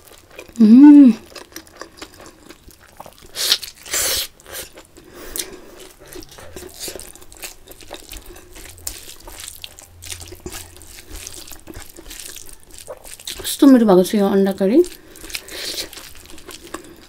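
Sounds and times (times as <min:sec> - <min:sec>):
person chewing food: 0:00.0 - 0:13.8, 0:14.8 - 0:17.0.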